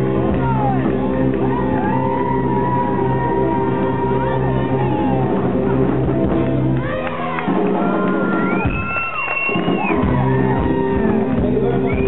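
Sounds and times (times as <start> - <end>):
rock and roll band playing: 0.0 - 12.0
audience cheering and whooping: 0.2 - 12.0.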